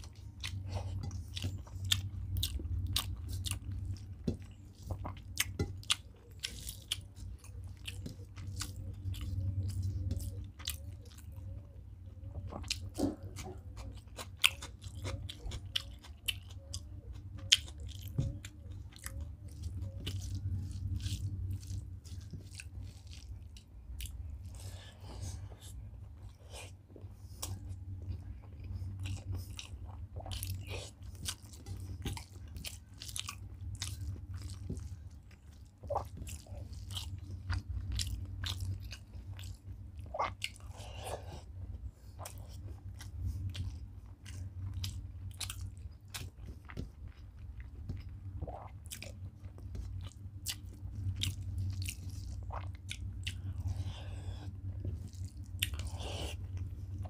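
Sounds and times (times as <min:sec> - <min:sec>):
person chewing: 0:00.0 - 0:57.0
steady low hum: 0:00.0 - 0:57.0.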